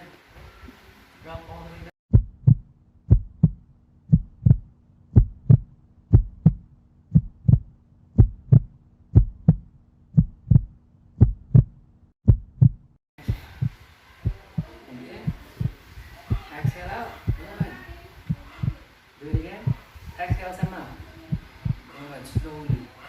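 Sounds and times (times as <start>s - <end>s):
low steady hum: 0.0s - 23.0s
heartbeat thumps: 2.1s - 23.0s.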